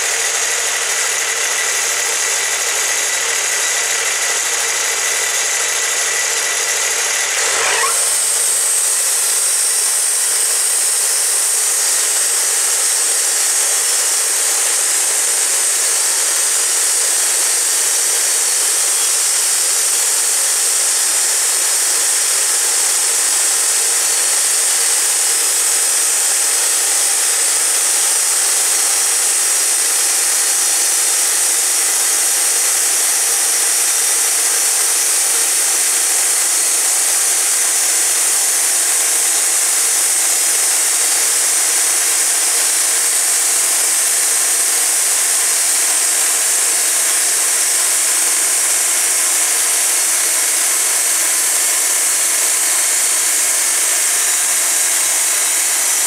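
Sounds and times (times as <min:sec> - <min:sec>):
band sawmill cutting wood: 0:00.0 - 0:56.0.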